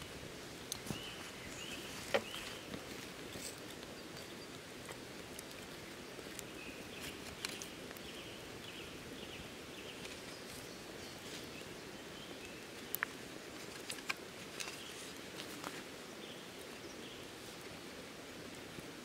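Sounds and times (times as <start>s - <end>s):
birds chirping: 0.0s - 15.3s.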